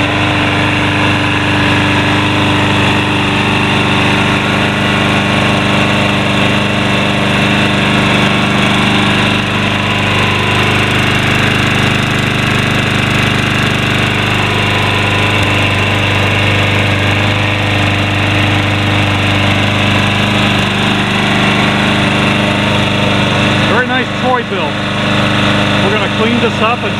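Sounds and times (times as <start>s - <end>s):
lawn mower engine running: 0.0s - 26.9s.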